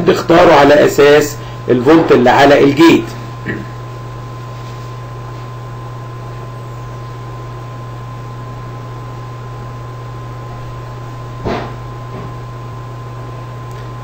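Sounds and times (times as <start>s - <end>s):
electrical hum and hiss: 0.0s - 14.0s
thin steady whine: 0.0s - 14.0s.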